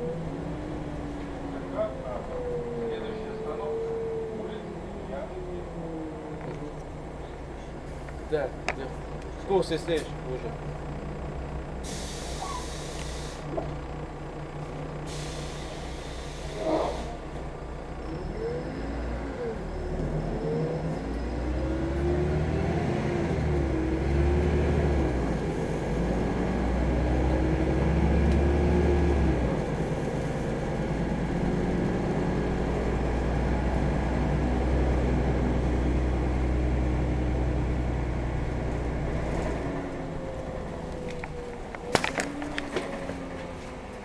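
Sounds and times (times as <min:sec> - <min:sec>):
bus engine accelerating: 0:00.0 - 0:44.0.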